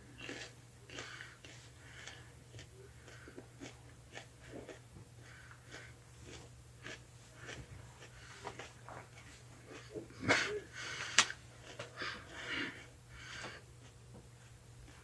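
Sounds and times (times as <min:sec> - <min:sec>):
person crunching and chewing: 0:00.0 - 0:12.9.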